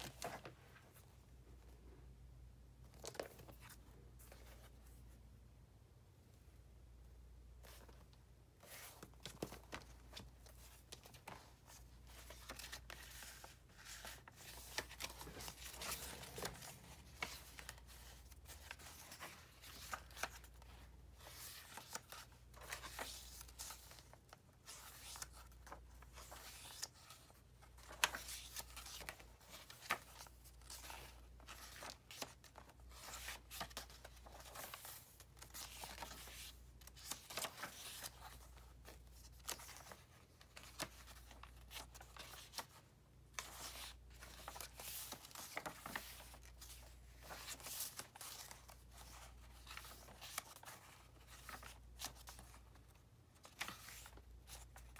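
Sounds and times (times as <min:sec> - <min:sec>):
paper pages turning: 0:02.8 - 0:04.7, 0:07.6 - 0:54.9.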